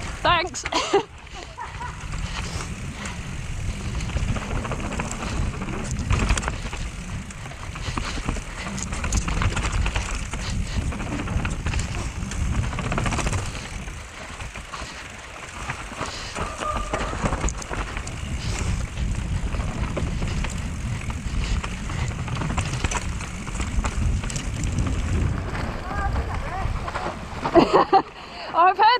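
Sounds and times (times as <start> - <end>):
bike frame and chain clattering: 0.0 - 28.7
bike tyres rumbling over dirt: 0.0 - 28.8.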